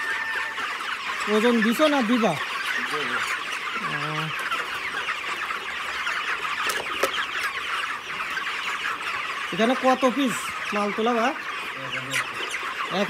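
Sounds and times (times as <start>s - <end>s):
chickens peeping and clucking: 0.0s - 13.0s.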